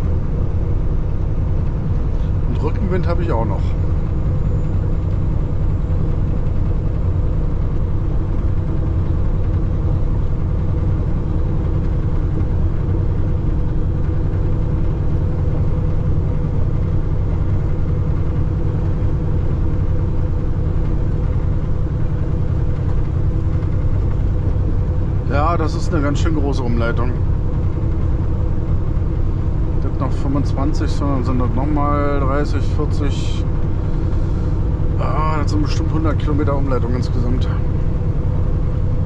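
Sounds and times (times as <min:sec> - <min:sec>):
truck diesel engine drone: 0:00.0 - 0:39.0.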